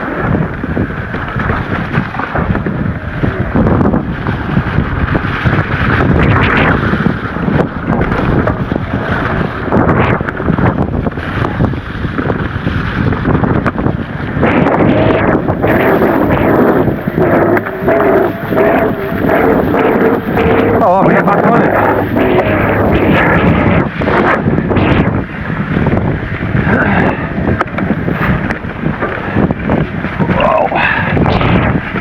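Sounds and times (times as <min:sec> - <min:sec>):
bike rattling and knocking: 0:00.0 - 0:26.6
wind buffeting microphone: 0:00.0 - 0:32.0.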